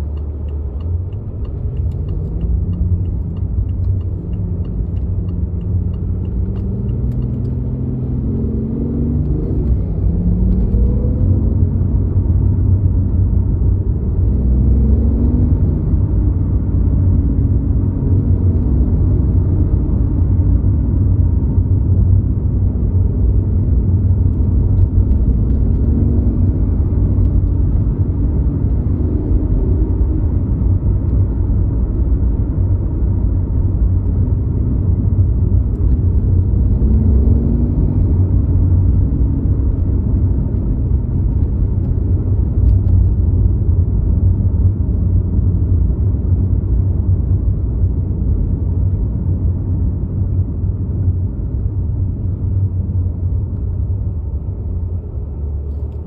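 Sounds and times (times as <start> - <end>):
sports car engine: 0.0 - 56.0.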